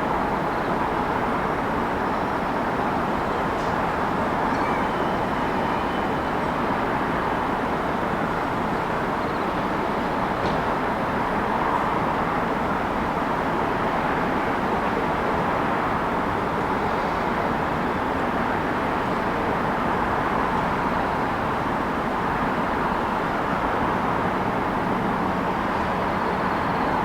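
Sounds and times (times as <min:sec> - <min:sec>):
city traffic: 0:00.0 - 0:27.0.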